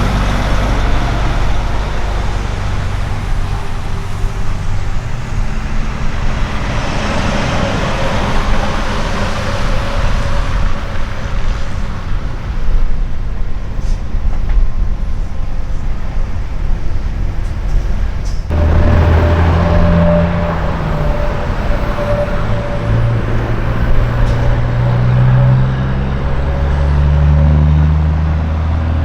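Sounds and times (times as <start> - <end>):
truck passing: 0.0 - 29.0.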